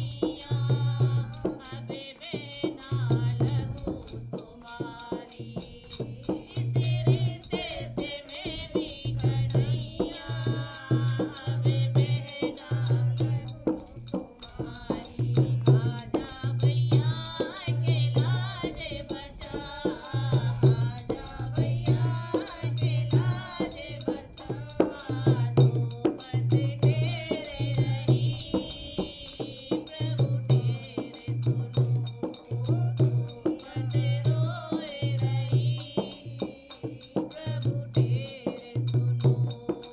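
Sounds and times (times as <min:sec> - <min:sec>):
drum beat: 0:00.0 - 0:39.9
jingling rattle percussion: 0:00.0 - 0:39.9
person singing devotional song: 0:00.0 - 0:39.9.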